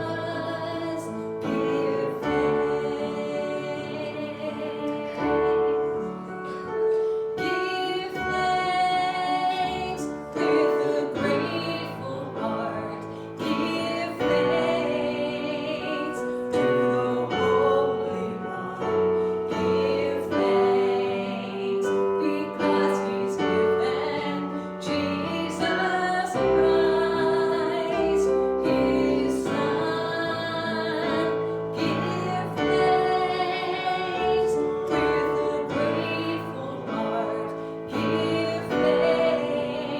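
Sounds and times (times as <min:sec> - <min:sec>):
piano accompaniment: 0:00.0 - 0:39.9
woman singing: 0:00.0 - 0:39.9.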